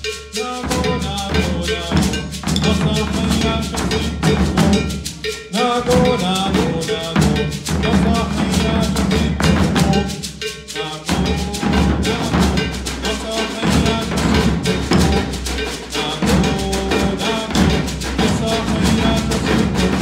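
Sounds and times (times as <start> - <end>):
drum ensemble playing: 0.0 - 20.0
voices singing: 0.0 - 20.0.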